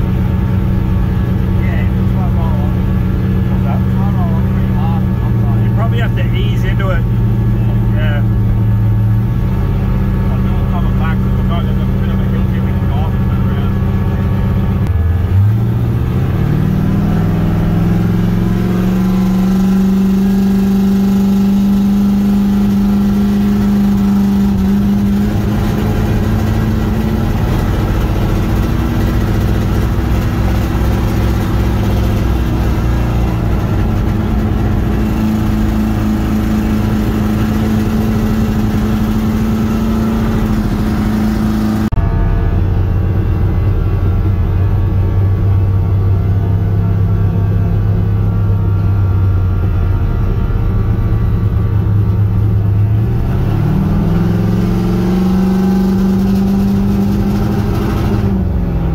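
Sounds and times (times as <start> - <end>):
car engine revving high: 0.0 - 58.9.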